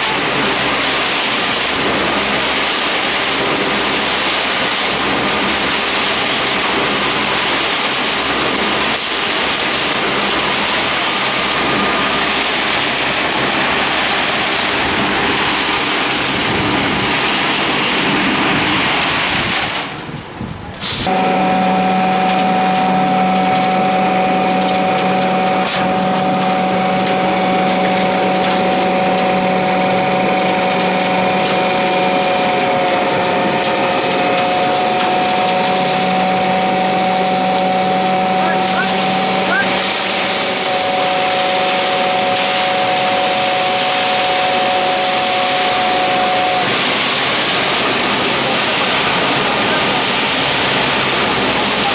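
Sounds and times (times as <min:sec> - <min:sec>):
machine hum with droning tone: 0:00.0 - 0:51.9.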